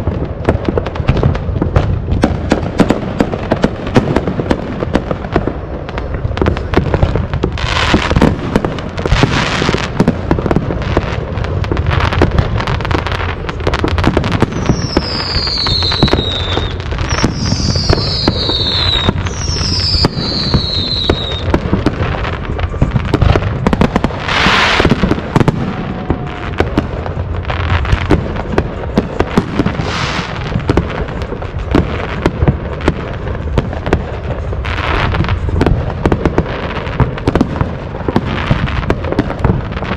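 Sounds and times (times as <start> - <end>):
fireworks crackling and banging: 0.0 - 39.9
fireworks falling whistles: 0.0 - 39.9.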